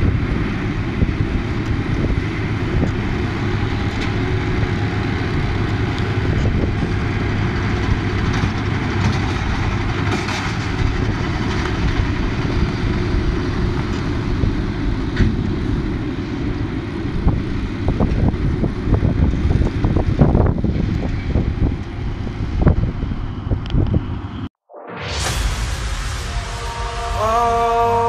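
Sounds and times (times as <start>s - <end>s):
tractor engine and baler running: 0.0s - 24.4s.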